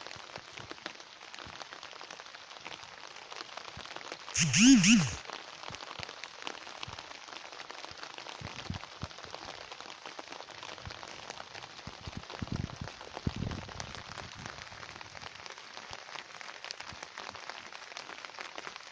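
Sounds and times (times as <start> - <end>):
rain pattering on surfaces: 0.0 - 4.4, 5.2 - 18.9.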